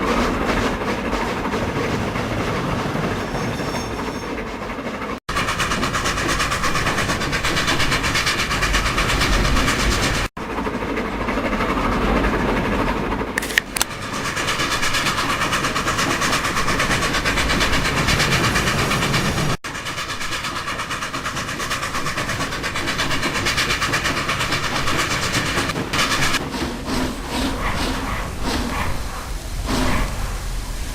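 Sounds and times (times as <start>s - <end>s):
steam train rhythmic clatter: 0.0s - 30.9s.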